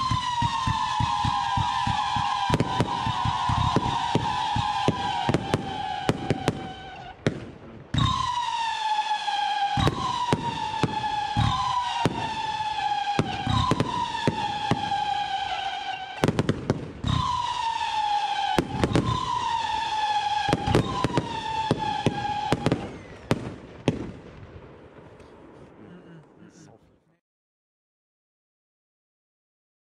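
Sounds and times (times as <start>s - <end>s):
firework cracks and pops: 0.0s - 9.0s, 9.8s - 25.8s
firework whistles: 0.0s - 24.0s.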